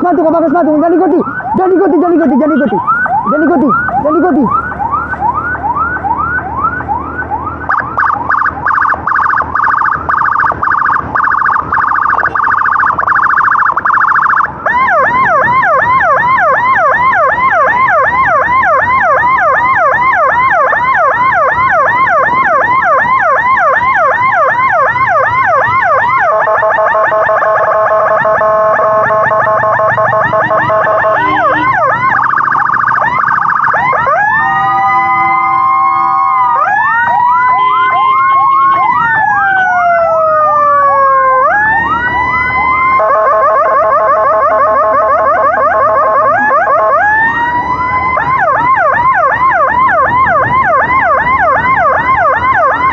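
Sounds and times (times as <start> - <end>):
emergency vehicle siren: 0.0 - 52.9.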